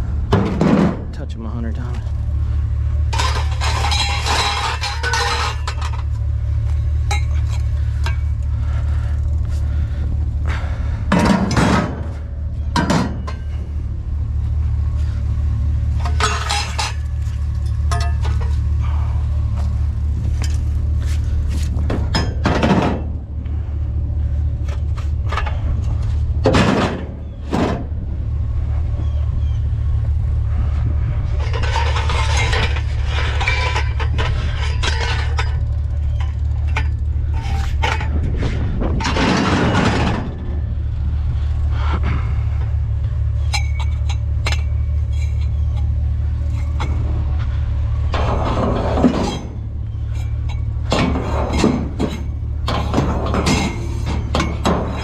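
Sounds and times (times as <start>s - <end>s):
junk clattering and clinking: 0.0s - 55.0s
steady low hum: 0.0s - 55.0s.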